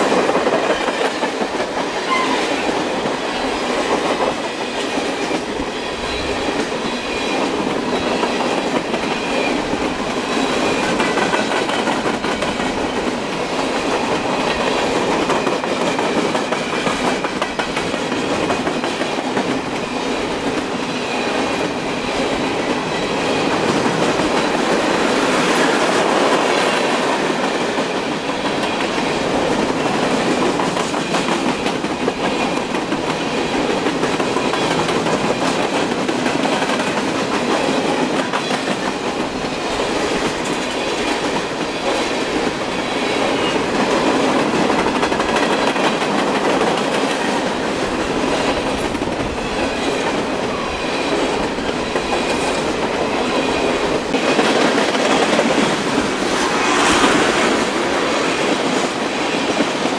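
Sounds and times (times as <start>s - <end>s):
freight cars rumbling on rail: 0.0s - 59.9s.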